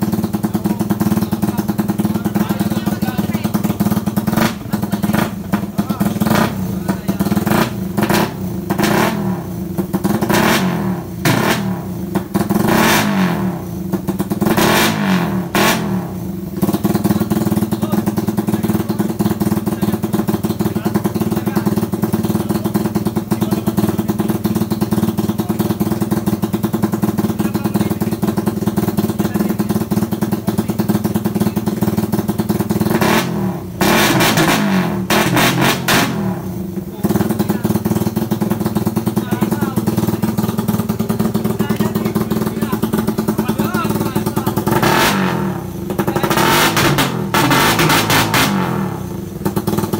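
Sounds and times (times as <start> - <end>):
motorcycle engine revving and idling: 0.0 - 49.9.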